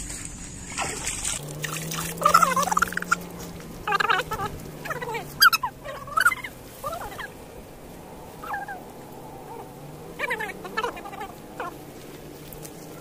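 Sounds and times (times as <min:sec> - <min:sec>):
gliding bird calls: 0:01.5 - 0:13.0.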